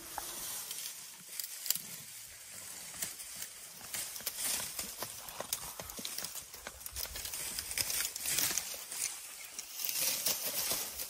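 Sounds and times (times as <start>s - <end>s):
twigs and leaves crackling: 0.0s - 11.0s.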